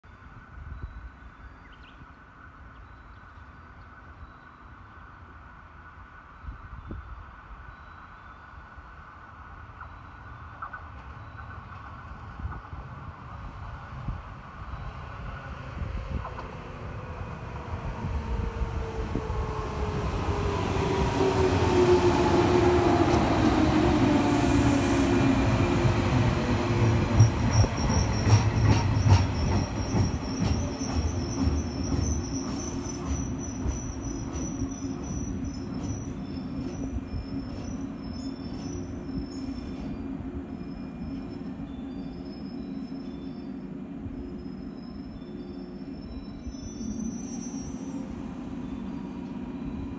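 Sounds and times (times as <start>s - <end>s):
electric train rumble: 8.6s - 49.9s.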